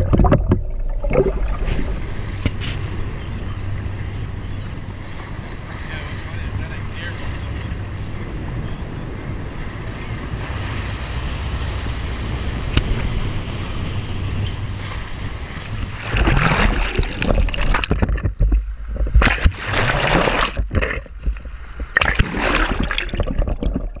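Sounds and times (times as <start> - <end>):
underwater rushing gurgling water: 0.0 - 7.1, 9.5 - 24.0
sea noise: 0.0 - 24.0
wind on microphone: 0.0 - 24.0.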